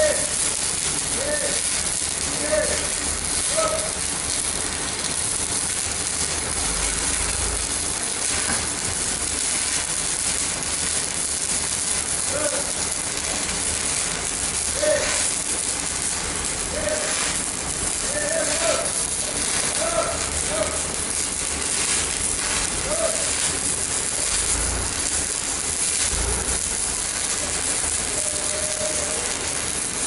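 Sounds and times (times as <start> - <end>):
welding arc crackling and hissing: 0.0 - 30.0.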